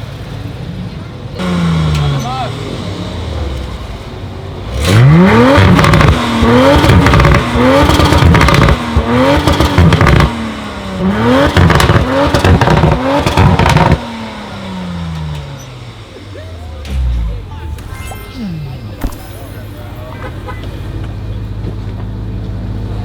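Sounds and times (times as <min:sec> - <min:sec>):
car engine revving with crackles: 0:00.0 - 0:23.0.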